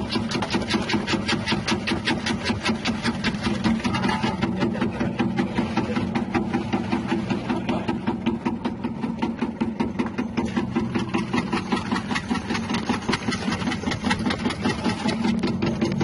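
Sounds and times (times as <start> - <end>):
rapid ticking of rotating cutter: 0.0 - 8.8, 9.4 - 16.0.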